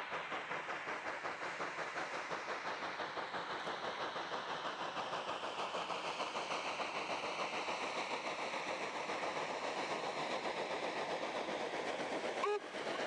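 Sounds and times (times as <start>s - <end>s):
train rattling on rails: 0.0s - 13.0s.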